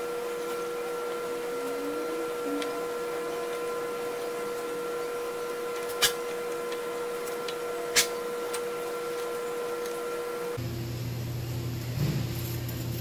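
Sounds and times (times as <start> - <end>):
mechanical hum with high whine: 0.0 - 13.0.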